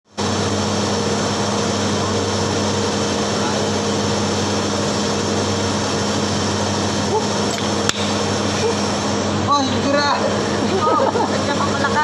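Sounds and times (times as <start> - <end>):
welding machine humming and hissing: 0.1 - 12.0.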